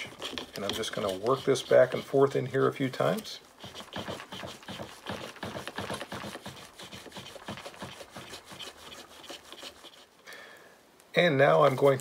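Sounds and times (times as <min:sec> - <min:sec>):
brush scrubbing in metal chamber: 0:00.0 - 0:10.2.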